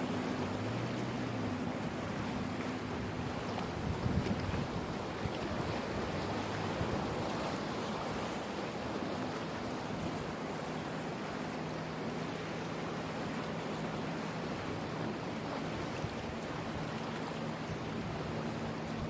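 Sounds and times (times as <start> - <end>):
waves washing against shore: 0.0 - 19.0.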